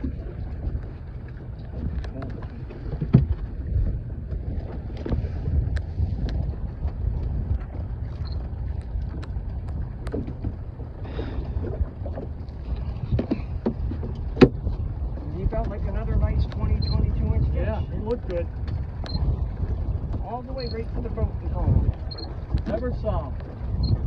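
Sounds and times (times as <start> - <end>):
boat engine rumble: 0.0 - 24.0
wind buffeting microphone: 0.0 - 24.0.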